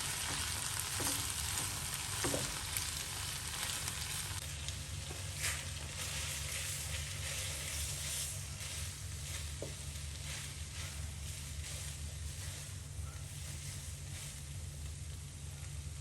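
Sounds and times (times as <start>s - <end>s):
food sizzling in a frying pan: 0.0s - 15.4s.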